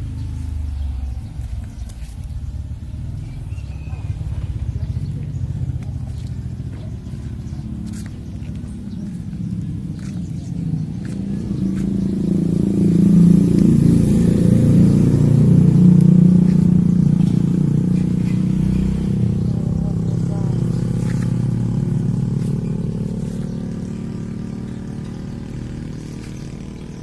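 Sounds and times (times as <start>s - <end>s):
vehicle engine droning: 0.0s - 27.0s.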